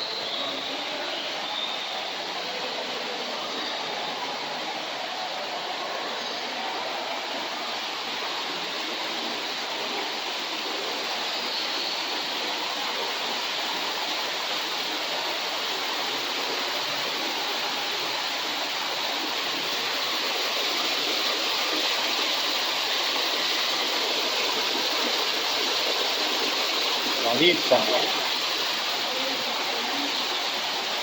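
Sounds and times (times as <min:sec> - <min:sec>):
falling water rushing: 0:00.0 - 0:31.0.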